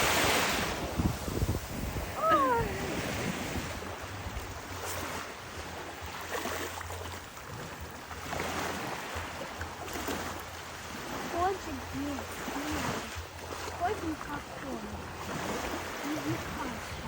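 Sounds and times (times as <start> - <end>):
ocean surf washing ashore: 0.0 - 17.0.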